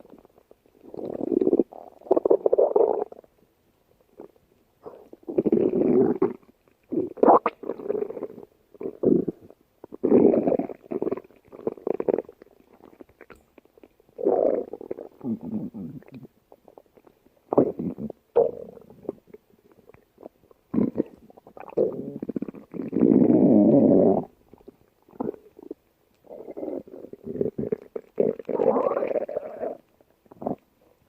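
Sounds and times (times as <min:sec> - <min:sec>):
stomach growling: 0:00.0 - 0:03.3, 0:04.2 - 0:31.0.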